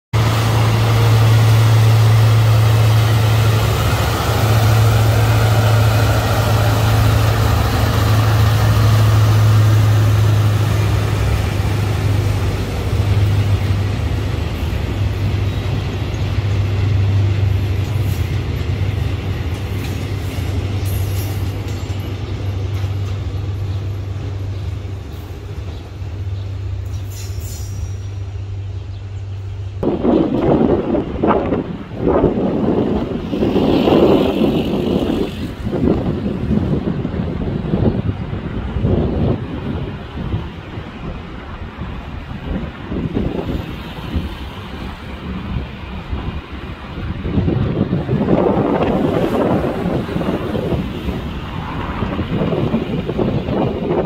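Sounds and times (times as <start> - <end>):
diesel locomotive hum: 0.1 - 54.0
train wagons rumbling on rails: 0.1 - 54.0.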